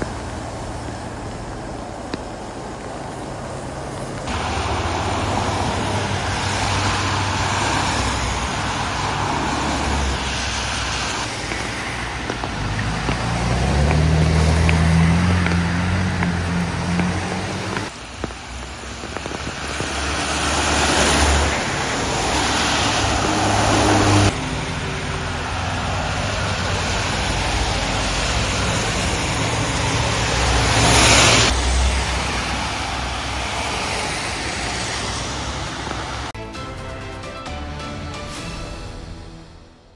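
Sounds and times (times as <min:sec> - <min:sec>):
tyre hiss on wet road: 0:00.0 - 0:36.4
vehicle engine hum: 0:00.0 - 0:36.4
steady traffic noise: 0:00.0 - 0:38.4.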